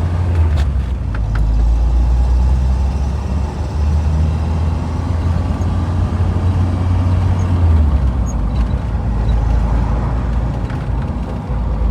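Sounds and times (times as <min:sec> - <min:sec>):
car engine droning: 0:00.0 - 0:11.9.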